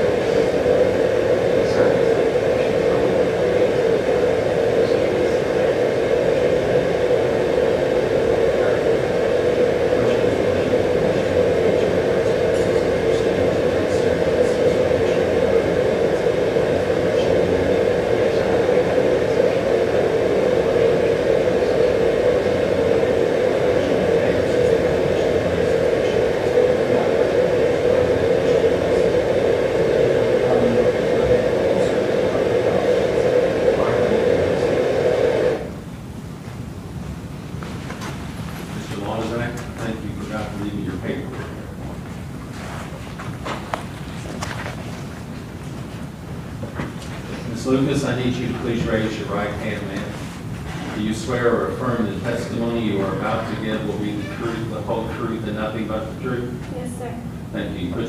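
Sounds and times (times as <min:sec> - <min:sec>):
rushing masking noise with hum: 0:00.0 - 0:35.9, 0:42.5 - 0:58.0
white noise hiss with drone: 0:00.0 - 0:58.0.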